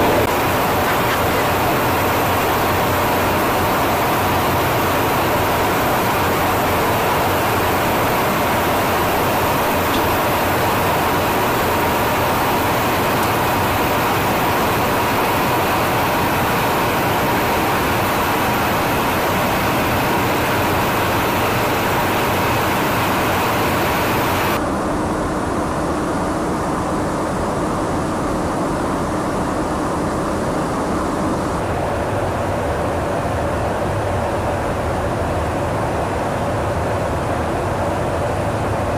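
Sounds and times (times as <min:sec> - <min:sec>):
aircraft engine drone: 0:00.0 - 0:38.9.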